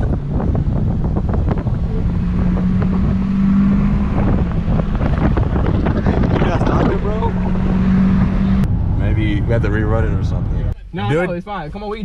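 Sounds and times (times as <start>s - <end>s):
car engine pulling hard: 0.0s - 10.8s
road and wind rumble: 0.0s - 12.0s.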